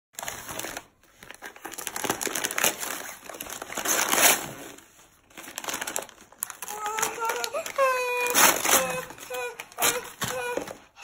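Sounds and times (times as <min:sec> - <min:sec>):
wrapping paper tearing and crinkling: 0:00.2 - 0:11.0.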